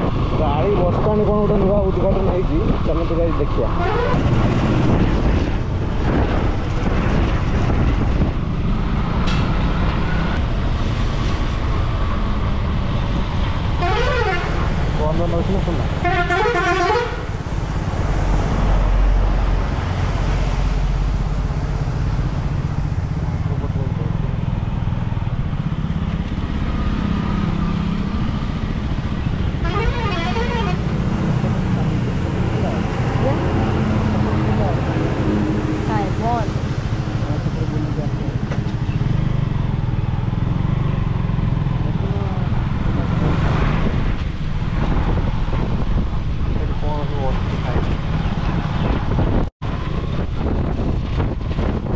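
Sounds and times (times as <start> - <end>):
motorcycle engine rumble: 0.0 - 51.9
road noise: 0.0 - 51.9
wind rushing over microphone: 0.0 - 51.9.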